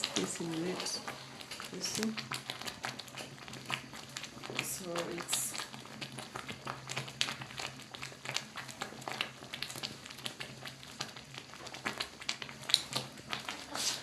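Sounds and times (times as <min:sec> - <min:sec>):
pot crackling and popping: 0:00.0 - 0:14.0.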